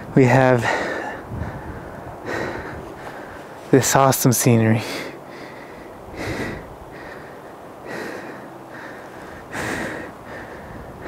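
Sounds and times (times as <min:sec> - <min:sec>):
man breathing hard: 0:00.6 - 0:03.7, 0:04.8 - 0:11.0.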